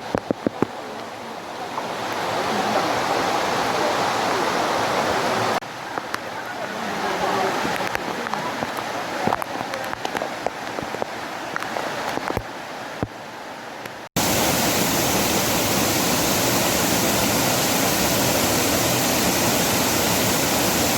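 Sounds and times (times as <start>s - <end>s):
rushing waterfall: 0.0s - 20.9s.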